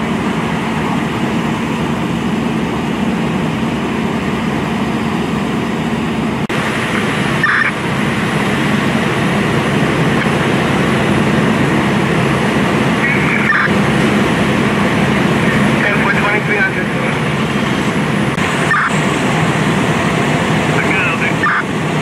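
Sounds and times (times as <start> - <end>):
vehicle engines idling: 0.0 - 22.0.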